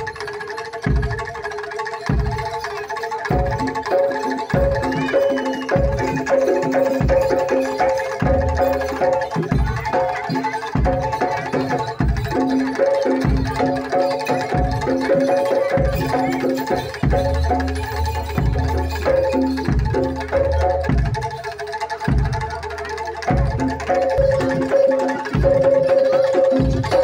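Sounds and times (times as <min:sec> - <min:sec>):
gamelan pitched notes: 0:00.0 - 0:27.0
hand drum strokes: 0:00.0 - 0:27.0.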